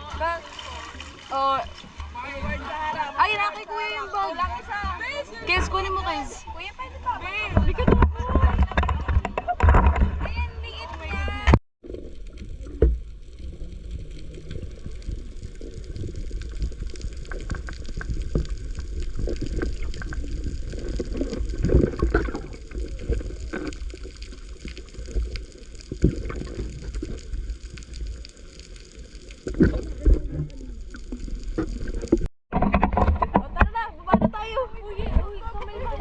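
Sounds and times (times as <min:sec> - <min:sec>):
knocks and splashes: 0:00.0 - 0:03.2, 0:07.4 - 0:35.4
water gurgling and sloshing: 0:00.0 - 0:36.0.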